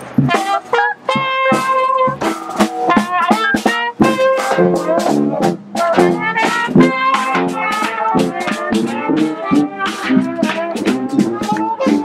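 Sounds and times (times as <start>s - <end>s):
sousaphone bass line: 0.0s - 12.0s
brass band playing: 0.1s - 12.0s.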